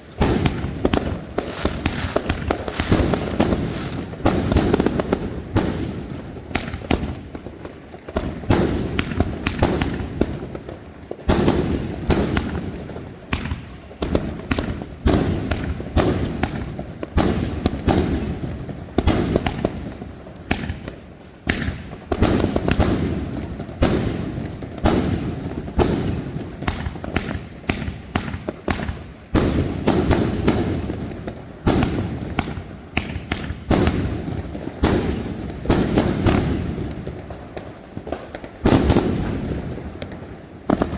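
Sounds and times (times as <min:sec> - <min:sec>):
fireworks bangs: 0:00.0 - 0:40.9.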